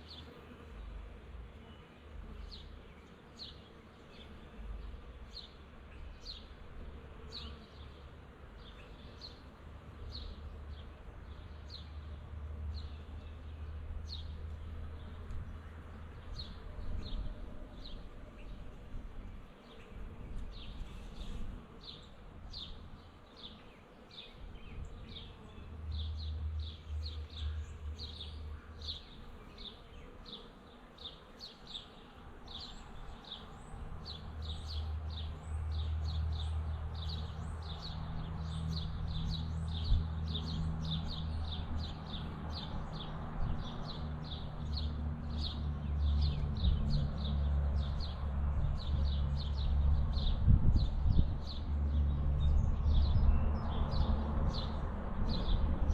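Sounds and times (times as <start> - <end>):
honeybees buzzing: 0.0 - 52.7.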